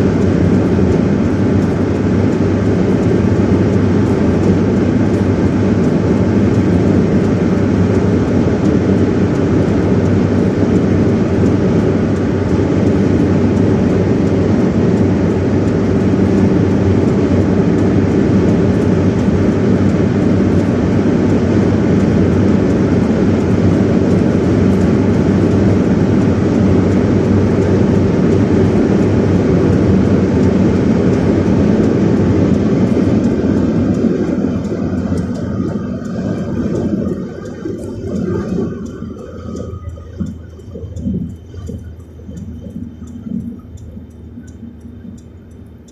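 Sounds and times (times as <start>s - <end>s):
wind roaring: 0.0s - 45.8s
vehicle road noise: 0.0s - 45.9s.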